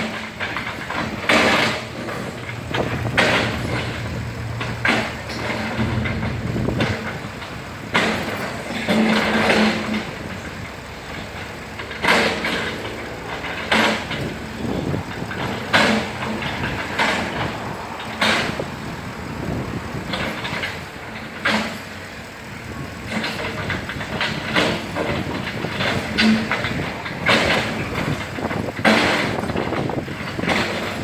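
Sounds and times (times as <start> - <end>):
excavator diesel engine surging: 0.0 - 31.0.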